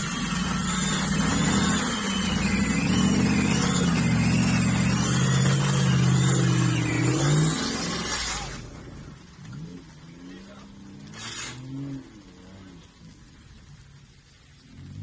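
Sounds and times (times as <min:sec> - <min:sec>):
car engine revving hard: 0:00.0 - 0:09.0, 0:09.6 - 0:12.9.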